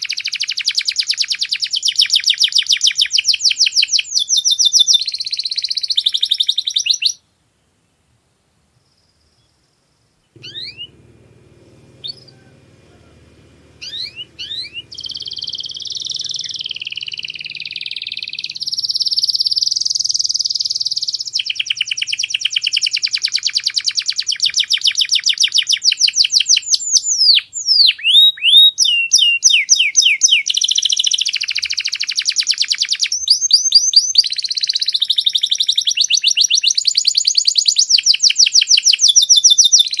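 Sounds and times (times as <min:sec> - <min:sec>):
canary singing: 0:00.0 - 0:07.2, 0:10.3 - 0:40.0.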